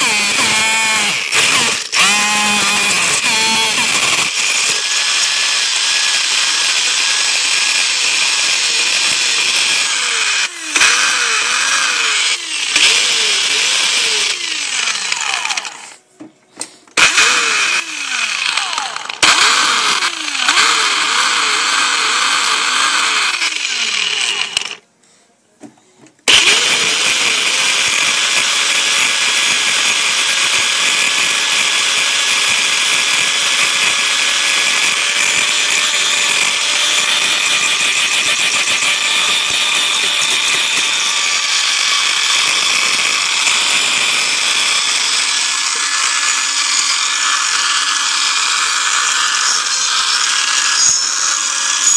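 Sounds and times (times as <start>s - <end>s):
blender motor whining: 0.0s - 16.0s, 17.0s - 24.8s, 26.3s - 51.9s.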